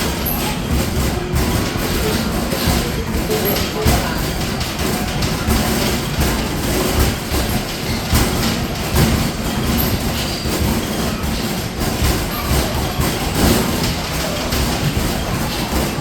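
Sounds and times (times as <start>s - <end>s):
balls rumbling down return ramp: 0.0s - 16.0s.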